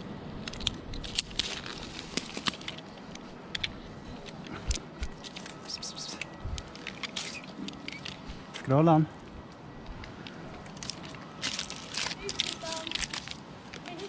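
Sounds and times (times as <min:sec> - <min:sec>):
rope gear clicks and scrapes: 0:00.4 - 0:08.2, 0:10.2 - 0:14.0.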